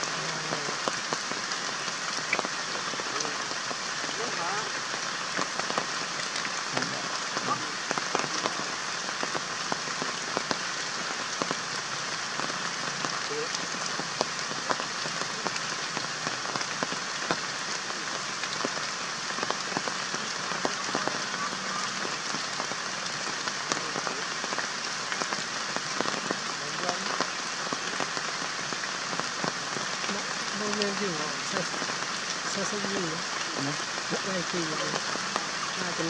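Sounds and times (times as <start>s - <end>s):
steady outdoor hiss: 0.0s - 36.0s.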